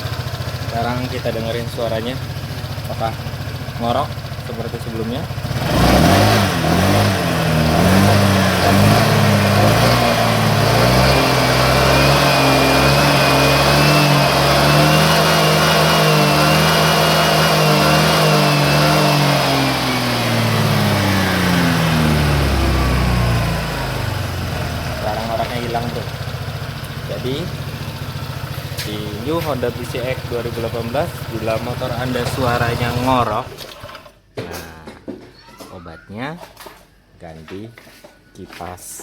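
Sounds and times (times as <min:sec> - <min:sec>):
scooter engine revving: 0:00.0 - 0:34.1.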